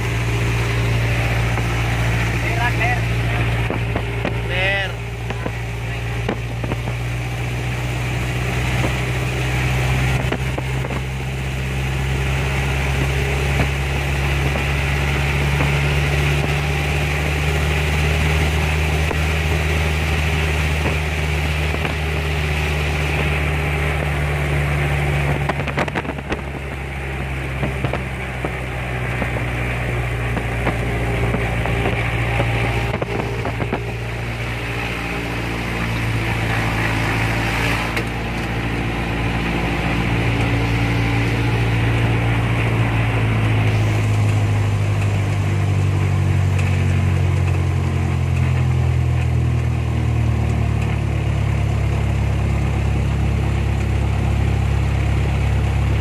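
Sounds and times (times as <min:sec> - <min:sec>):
propeller plane engine running: 0:00.0 - 0:56.0.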